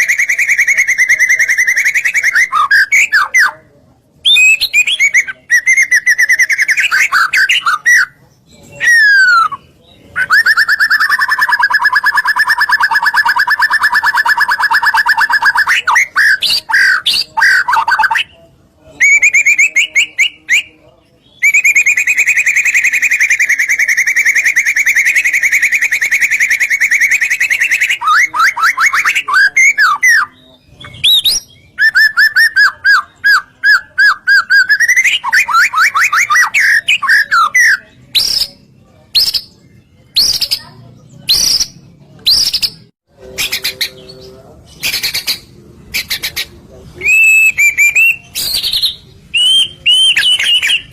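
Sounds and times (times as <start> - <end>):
songbird singing trills: 4.2 - 50.9.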